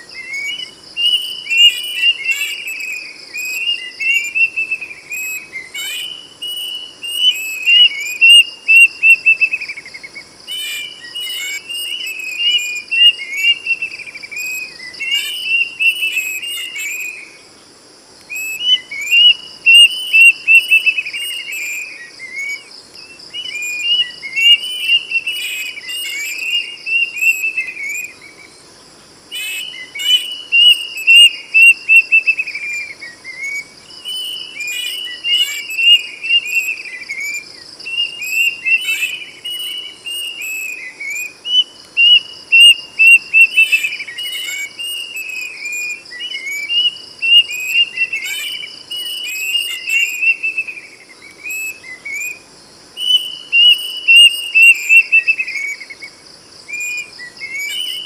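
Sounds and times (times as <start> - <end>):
cuckoo whistled song: 0.0 - 17.4, 18.2 - 28.4, 29.3 - 52.4, 53.0 - 56.1, 56.7 - 58.0
high insect drone: 0.0 - 58.0.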